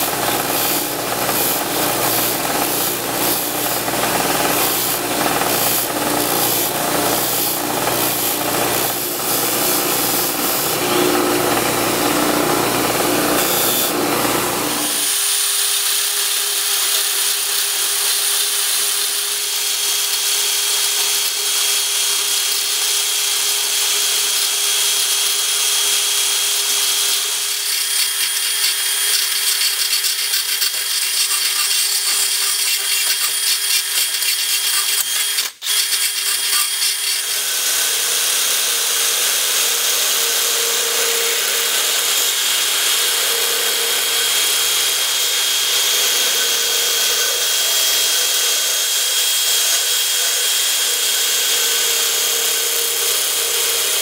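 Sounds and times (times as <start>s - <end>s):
power drill grinding steel: 0.0s - 54.0s.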